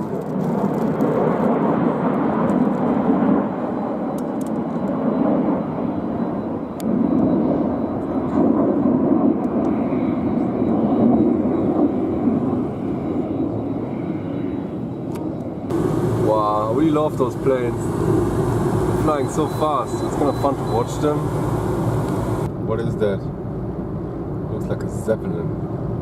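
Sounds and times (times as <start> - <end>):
jet aircraft flying overhead: 0.0 - 24.4.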